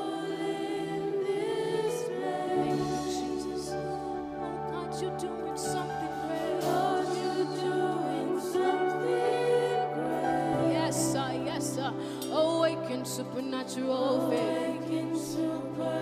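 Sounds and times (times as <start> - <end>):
held worship music chords: 0.0 - 16.0
person singing: 0.0 - 16.0.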